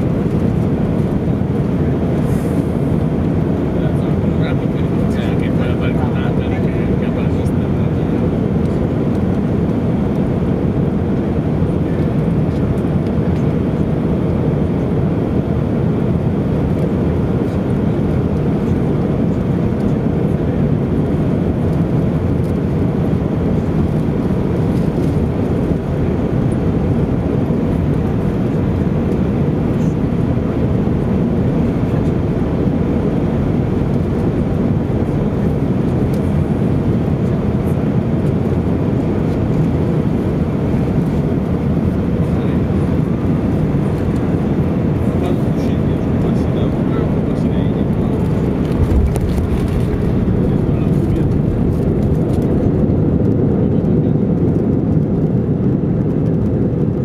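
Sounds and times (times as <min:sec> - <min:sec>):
airplane cabin engine noise: 0:00.0 - 0:57.0.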